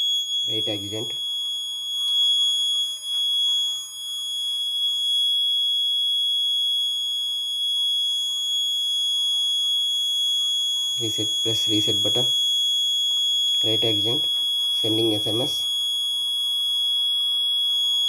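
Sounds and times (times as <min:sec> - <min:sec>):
high-pitched alarm buzzer tone: 0:00.0 - 0:18.0.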